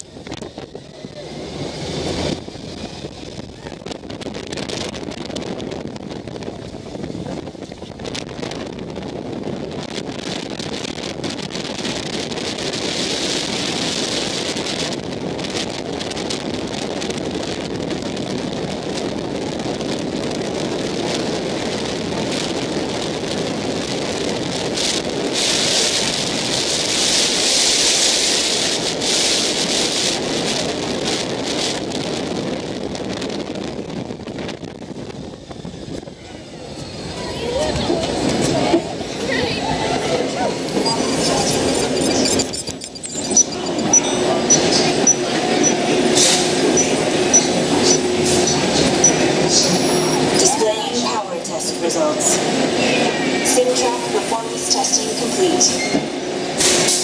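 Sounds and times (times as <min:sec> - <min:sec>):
ride vehicle running noise: 0:00.0 - 0:57.0
wind rushing over microphone: 0:00.0 - 0:57.0.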